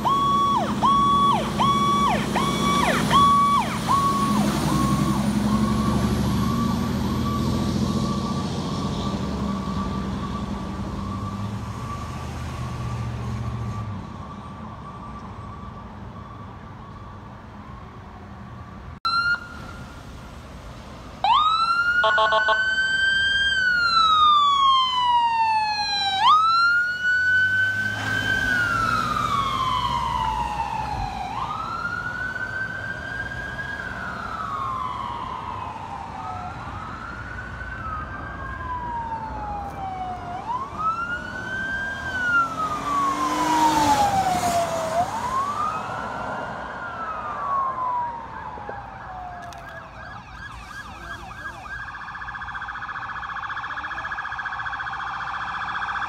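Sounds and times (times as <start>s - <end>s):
ambulance siren wailing: 0.0s - 18.2s, 19.0s - 20.1s, 21.2s - 56.0s.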